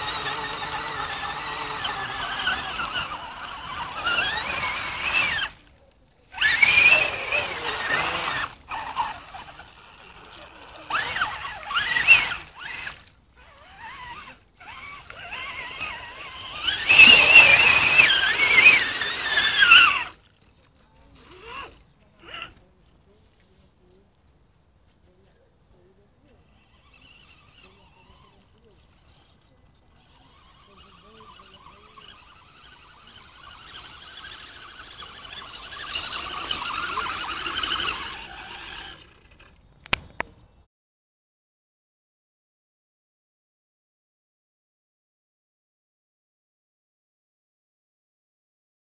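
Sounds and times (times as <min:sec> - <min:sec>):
electric motor whining: 0:00.0 - 0:24.0, 0:25.0 - 0:40.5.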